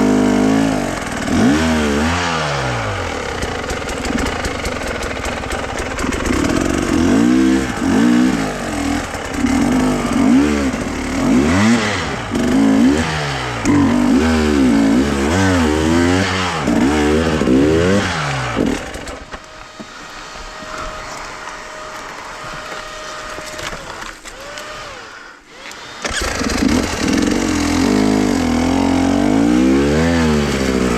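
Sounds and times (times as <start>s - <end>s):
vehicle engine revving: 0.0s - 23.8s, 26.0s - 30.9s.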